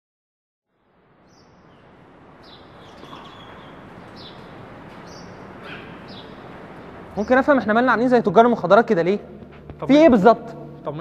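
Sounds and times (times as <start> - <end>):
outdoor ambient noise: 0.7 - 11.0.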